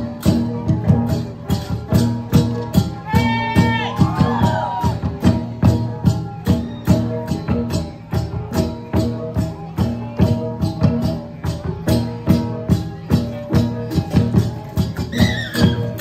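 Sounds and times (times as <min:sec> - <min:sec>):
hanging gongs struck in rhythm: 0:00.0 - 0:16.0.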